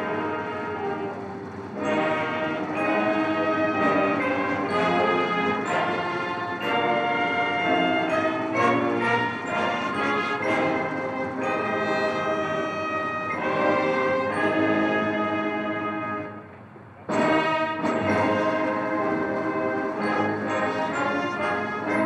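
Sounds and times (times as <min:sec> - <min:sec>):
brass band playing chords: 0:00.0 - 0:22.0.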